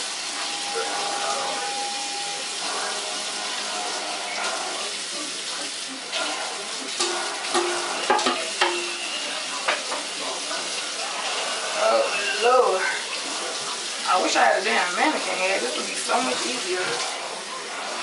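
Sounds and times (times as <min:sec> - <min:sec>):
tap water running into sink: 0:00.0 - 0:18.0.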